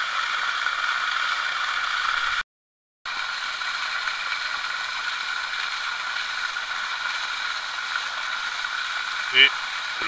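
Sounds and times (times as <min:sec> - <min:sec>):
waterfall pouring into pond: 0:00.0 - 0:02.4, 0:03.1 - 0:10.0.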